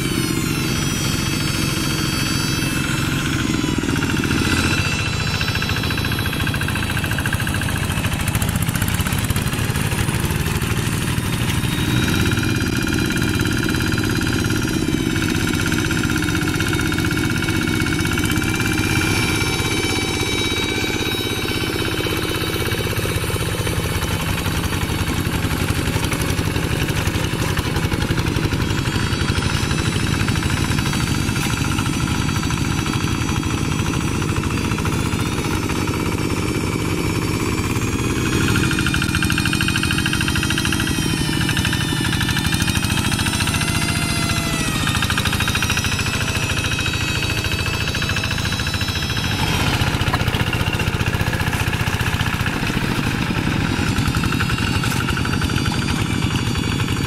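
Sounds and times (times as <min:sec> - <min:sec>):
diesel hand tractor engines running: 0:00.0 - 0:57.0.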